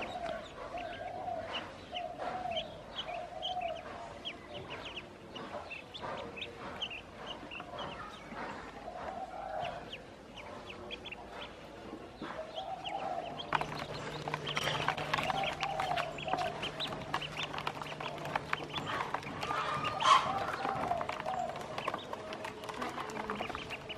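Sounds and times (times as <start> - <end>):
ducklings peeping: 0.0 - 23.9.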